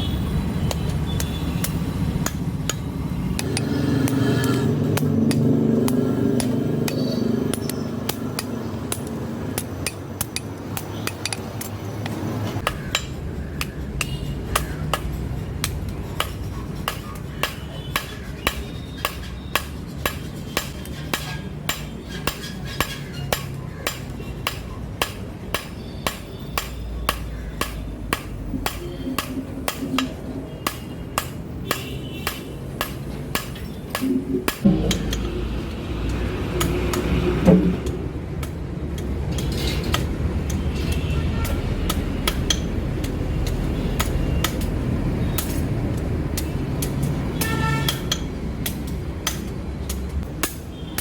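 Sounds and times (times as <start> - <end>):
hammer striking steel on anvil: 1.2 - 11.7, 12.6 - 44.7, 46.4 - 51.0.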